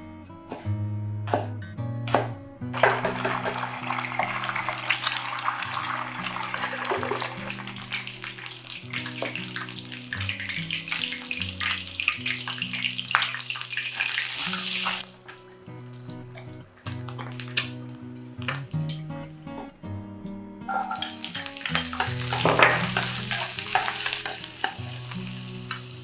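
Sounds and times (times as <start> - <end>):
soft background music: 0.0 - 26.0
eggs sizzling in hot oil: 2.8 - 18.6, 20.7 - 26.0.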